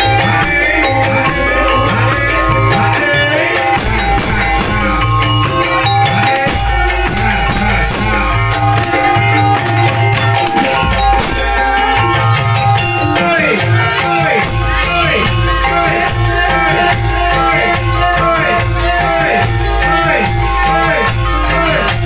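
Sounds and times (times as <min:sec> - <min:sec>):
gamelan music with drumming: 0:00.0 - 0:22.0.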